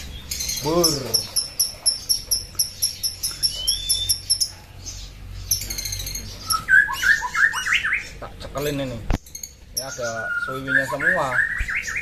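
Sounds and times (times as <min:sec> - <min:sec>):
rising squeaky bird calls: 0:00.0 - 0:08.3, 0:09.3 - 0:12.0
small birds chirping: 0:00.0 - 0:12.0.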